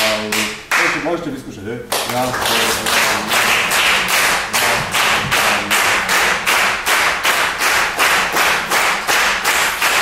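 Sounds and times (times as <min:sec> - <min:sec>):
people clapping in unison: 0:00.1 - 0:01.0, 0:01.9 - 0:10.0.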